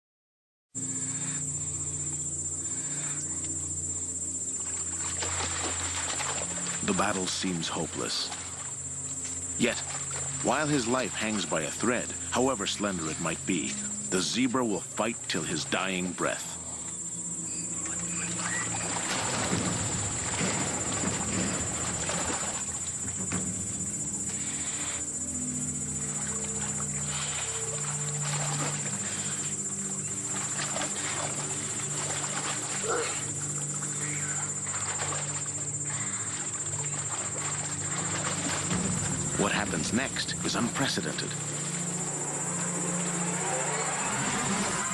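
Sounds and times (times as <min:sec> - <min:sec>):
crickets trilling: 0:00.8 - 0:44.9
insects chirring: 0:00.8 - 0:44.9
low sustained music tones: 0:00.8 - 0:44.9.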